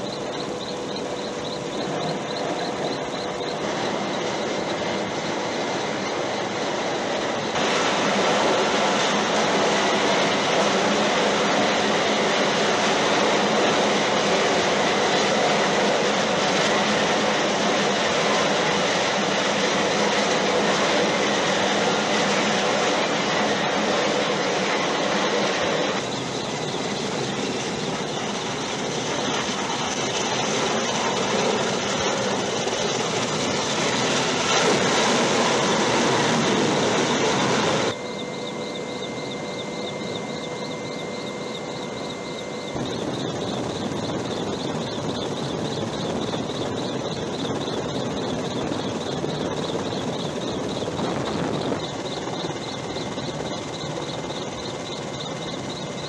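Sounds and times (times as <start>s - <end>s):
jet aircraft roar: 0.0s - 56.0s
steady whine: 0.0s - 56.0s.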